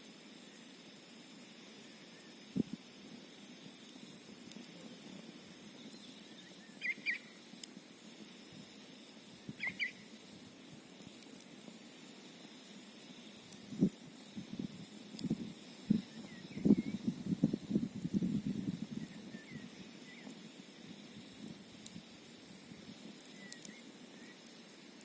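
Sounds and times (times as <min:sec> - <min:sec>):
campfire hissing: 0:00.0 - 0:25.0.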